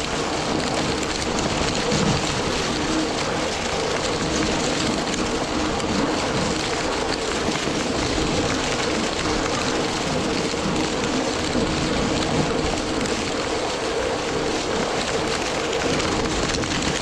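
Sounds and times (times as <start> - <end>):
snow groomer rushing over snow: 0.0 - 17.0.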